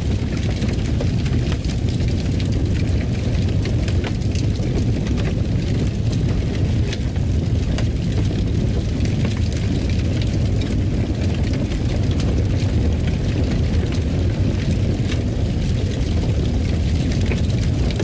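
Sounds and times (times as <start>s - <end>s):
fire crackling in fireplace: 0.0s - 18.0s
steady low rumble: 0.0s - 18.0s.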